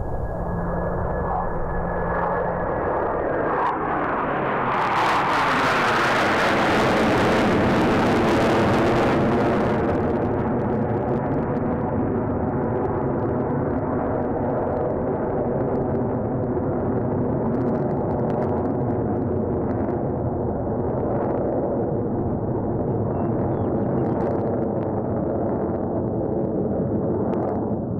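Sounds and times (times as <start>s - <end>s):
jet engine noise: 0.0s - 27.9s.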